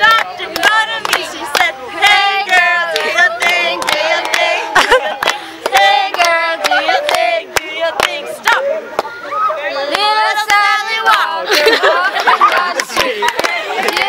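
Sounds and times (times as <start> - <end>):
women and girls chanting: 0.0 - 14.0
hand claps: 0.1 - 1.7, 2.5 - 9.1, 9.9 - 14.0.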